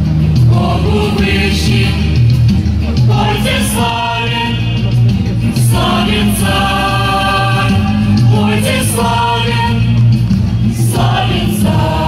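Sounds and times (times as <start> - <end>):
women's choir singing a hymn: 0.5 - 2.3, 3.0 - 5.0, 5.6 - 12.0.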